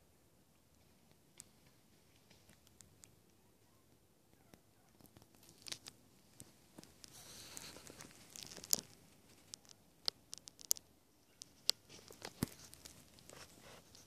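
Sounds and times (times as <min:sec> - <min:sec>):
light clicks and ticks: 0:00.5 - 0:14.0.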